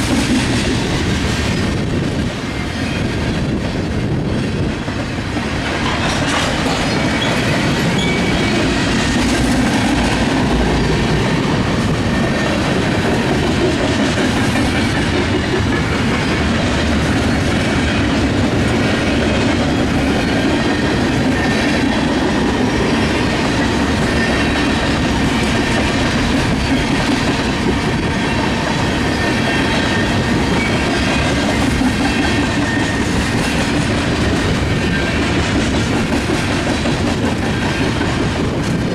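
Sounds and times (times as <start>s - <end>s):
freight train cars rolling past: 0.0s - 38.9s
wheels clicking over rail joints: 5.3s - 38.9s.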